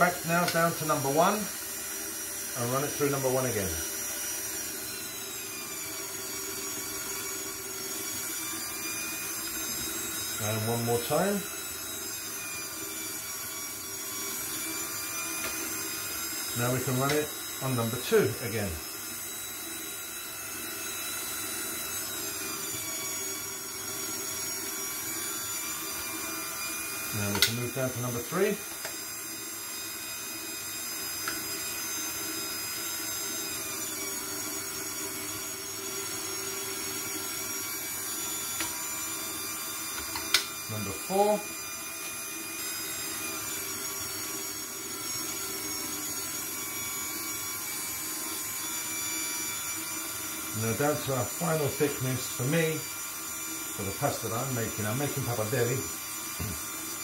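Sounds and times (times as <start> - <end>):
stand mixer motor whine: 0.0 - 57.0.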